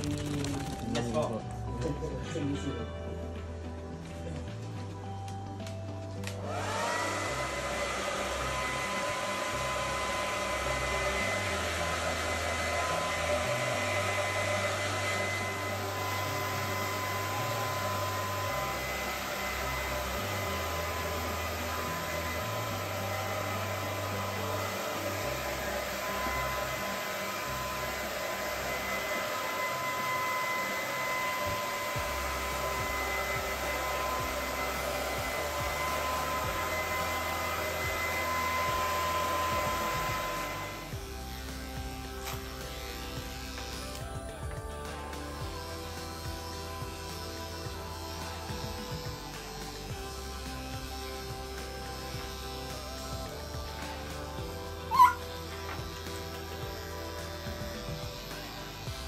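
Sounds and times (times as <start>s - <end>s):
hair dryer running: 4.0s - 59.0s.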